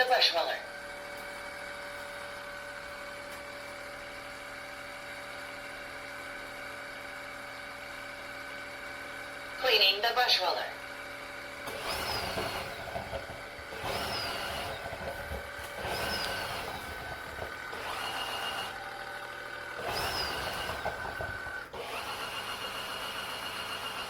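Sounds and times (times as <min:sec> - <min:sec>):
vacuum motor whine surging: 0:00.0 - 0:24.0.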